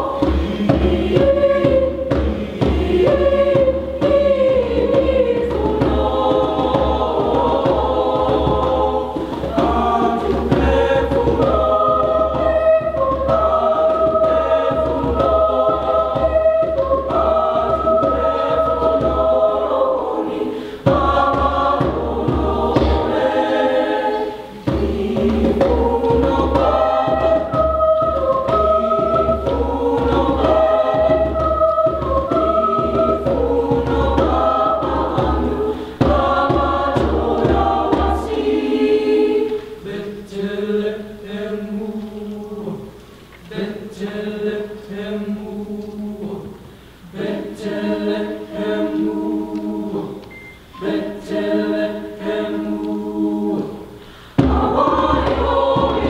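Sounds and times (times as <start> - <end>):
mixed choir singing in parts: 0.0 - 56.0.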